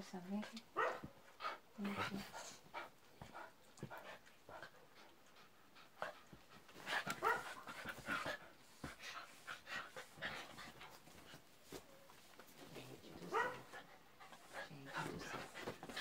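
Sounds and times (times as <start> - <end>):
dogs panting: 0.2 - 12.5, 13.2 - 16.0
soft rustling: 0.2 - 16.0.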